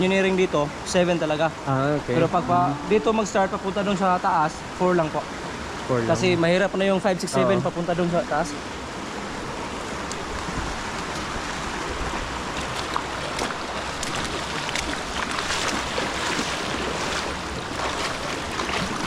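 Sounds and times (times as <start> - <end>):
rush of flowing water: 0.0 - 19.0.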